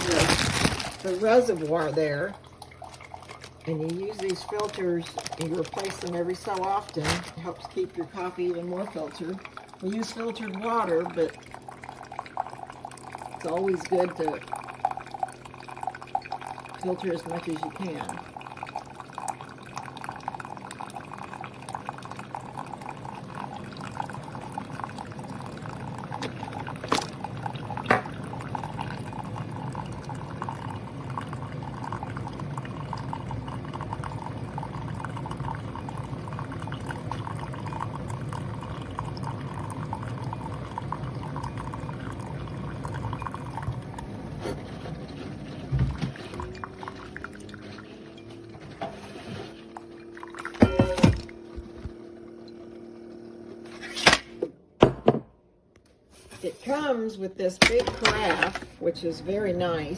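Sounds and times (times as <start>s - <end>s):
coffee streaming into cup: 0.0s - 53.9s, 57.6s - 59.4s
coffee maker pump running: 0.0s - 54.5s, 57.6s - 59.9s.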